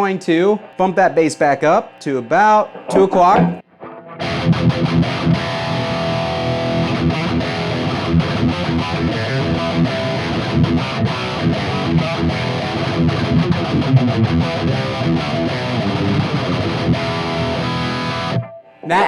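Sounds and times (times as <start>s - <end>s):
distorted electric guitar riff: 0.0s - 19.0s.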